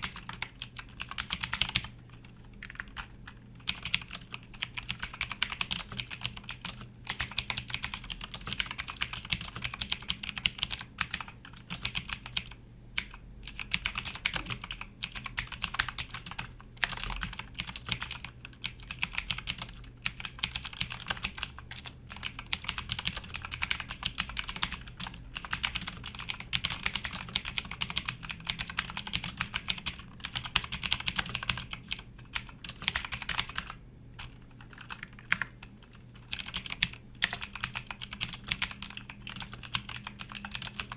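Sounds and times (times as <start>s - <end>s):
clicky keyboard typing: 0.0s - 40.9s.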